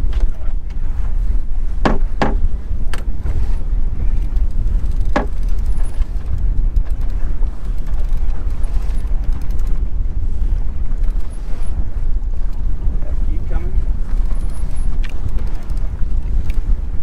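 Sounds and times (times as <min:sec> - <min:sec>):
water washing along hull: 0:00.0 - 0:17.0
wind rumbling on microphone: 0:00.0 - 0:17.0.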